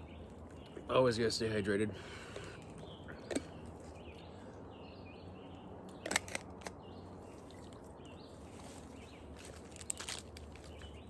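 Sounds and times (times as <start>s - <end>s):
quiet outdoor background: 0.0s - 11.0s.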